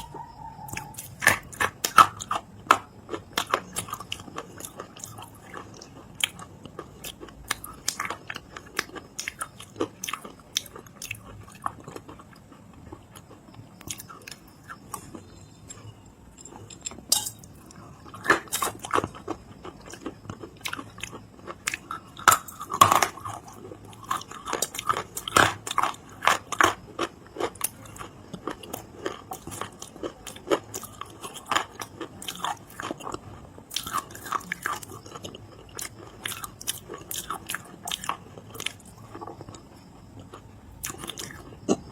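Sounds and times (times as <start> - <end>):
chewing crunchy clay: 0.0 - 41.9.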